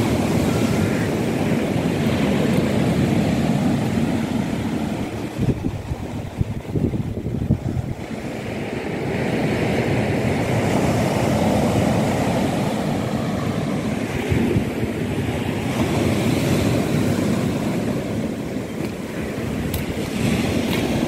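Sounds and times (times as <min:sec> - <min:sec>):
waves breaking on beach: 0:00.0 - 0:21.0
wind buffeting microphone: 0:00.0 - 0:21.0.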